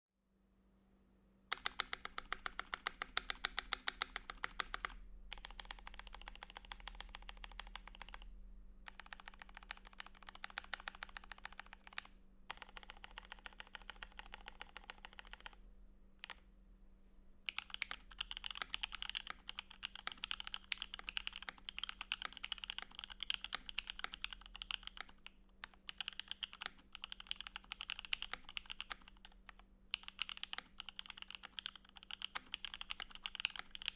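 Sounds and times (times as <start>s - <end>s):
faint steady hum: 0.2s - 33.9s
mechanical keyboard typing: 1.5s - 8.3s, 8.9s - 15.6s, 16.2s - 16.4s, 17.5s - 33.9s.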